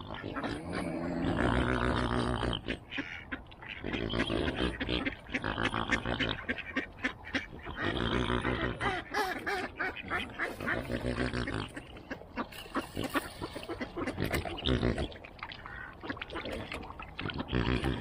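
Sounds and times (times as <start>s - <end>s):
ducks calling: 0.0s - 18.0s.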